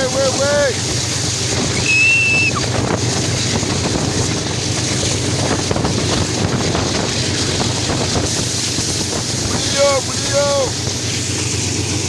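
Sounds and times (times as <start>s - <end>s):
locomotive engine rumble: 0.0s - 12.0s
wind buffeting microphone: 0.0s - 12.0s.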